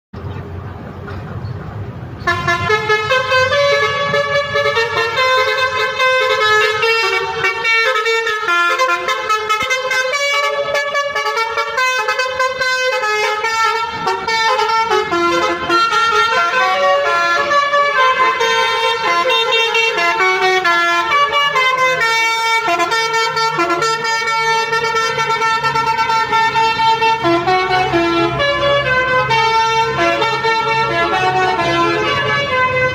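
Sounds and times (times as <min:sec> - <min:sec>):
multi-tone bus horn melody: 0:02.2 - 0:32.9.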